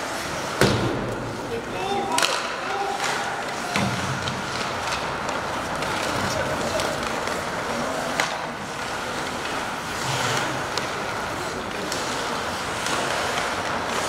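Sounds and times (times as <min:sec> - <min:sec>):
skates hissing on ice: 0:00.0 - 0:00.6, 0:01.3 - 0:14.0
crowd: 0:00.0 - 0:14.0
hockey sticks and puck clicking: 0:00.0 - 0:14.0.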